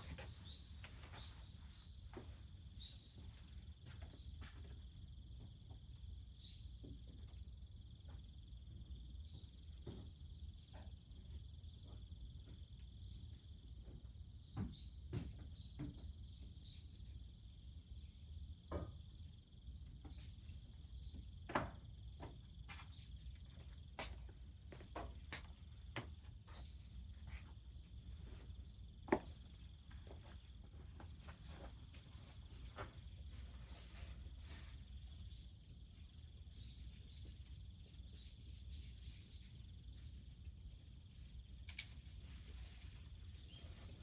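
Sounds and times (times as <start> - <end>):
crickets chirring: 0.0 - 44.0.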